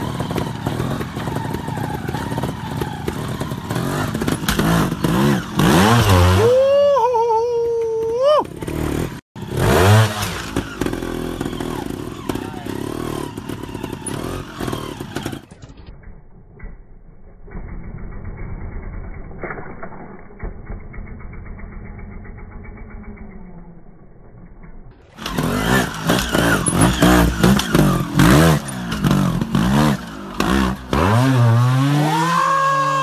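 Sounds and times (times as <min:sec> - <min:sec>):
motorcycle engine revving: 0:00.0 - 0:16.0, 0:20.4 - 0:33.0.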